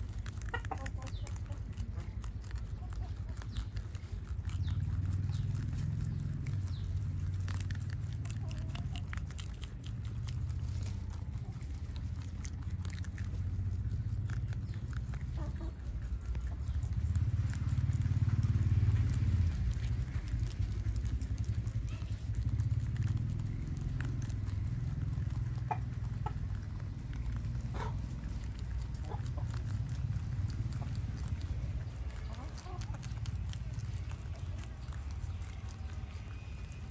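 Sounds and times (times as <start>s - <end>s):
rabbits chewing greens: 0.0s - 36.9s
steady low rumble: 0.0s - 36.9s.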